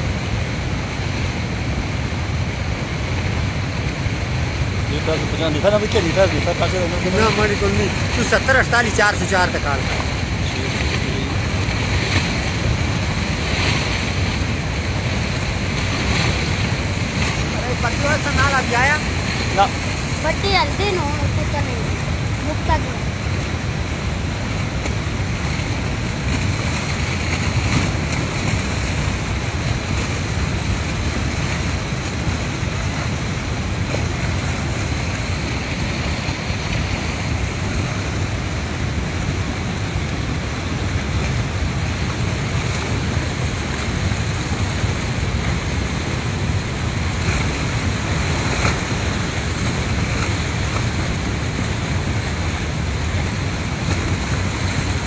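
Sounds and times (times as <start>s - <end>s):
flood torrent rushing: 0.0s - 55.0s.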